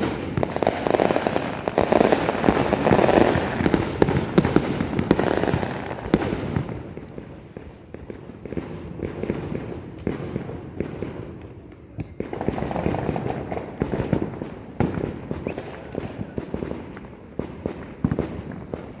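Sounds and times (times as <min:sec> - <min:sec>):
firecrackers crackling: 0:00.0 - 0:19.0
firework bangs: 0:00.0 - 0:19.0.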